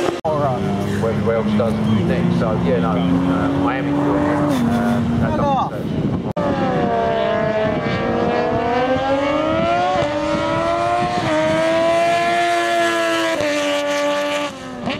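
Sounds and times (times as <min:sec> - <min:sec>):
racing motorbike engine revving: 0:00.0 - 0:05.4, 0:06.2 - 0:14.9.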